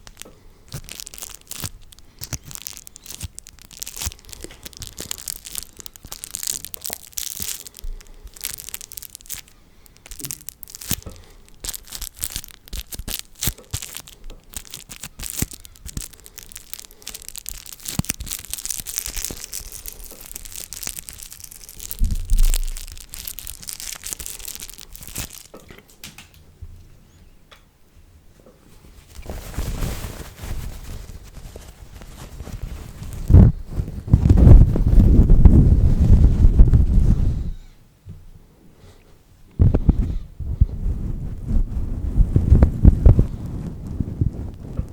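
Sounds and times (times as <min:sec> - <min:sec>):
dense crackling and rustling: 0:00.0 - 0:26.0, 0:28.8 - 0:37.2, 0:41.0 - 0:44.9.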